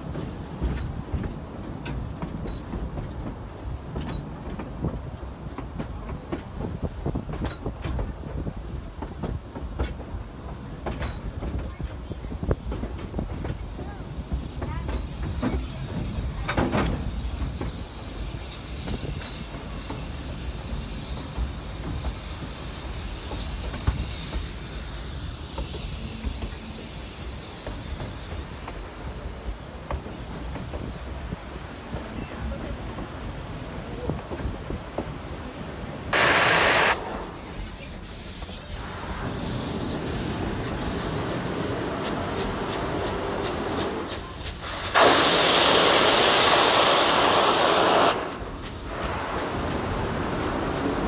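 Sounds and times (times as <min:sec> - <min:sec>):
rail joint clicks: 0:00.0 - 0:51.0
steam hiss: 0:00.0 - 0:51.0
train cars rumbling on track: 0:00.0 - 0:51.0.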